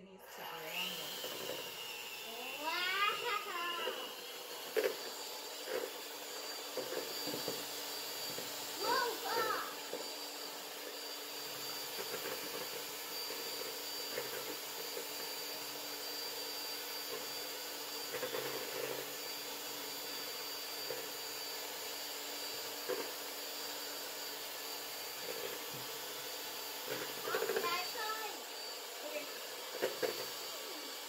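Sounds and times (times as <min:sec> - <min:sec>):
electric hand mixer whining: 0:00.0 - 0:31.0.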